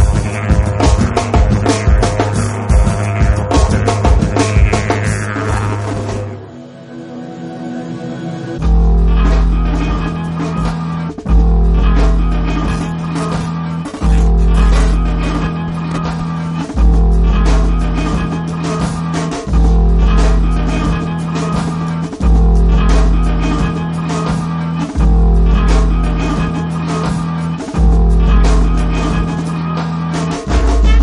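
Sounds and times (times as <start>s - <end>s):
rock music with guitar and drums: 0.0s - 6.4s, 8.6s - 31.0s
heavy low bass note: 0.0s - 6.5s, 8.6s - 29.8s, 30.5s - 31.0s.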